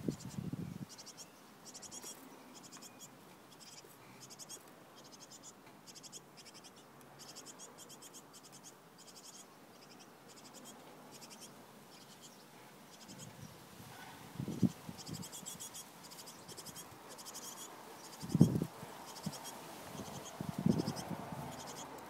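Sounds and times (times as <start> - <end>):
nestling birds begging calls: 0.0 - 22.0.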